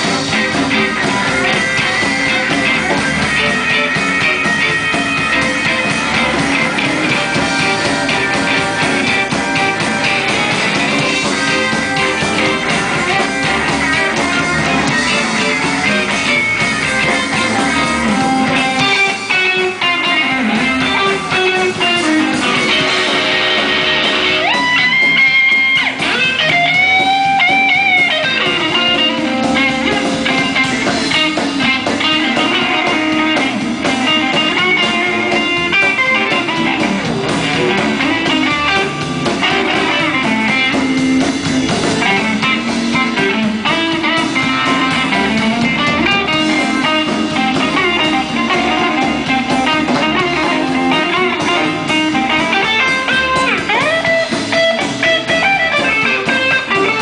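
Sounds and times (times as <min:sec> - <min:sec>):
bass guitar: 0:00.0 - 0:57.0
drums: 0:00.0 - 0:57.0
electric guitar lead: 0:00.0 - 0:57.0.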